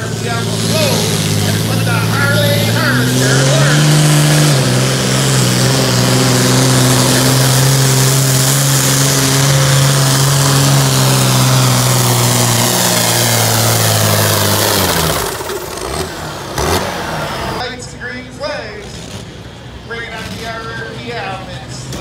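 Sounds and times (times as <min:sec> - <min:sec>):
tractor diesel engine drone: 0:00.0 - 0:22.0.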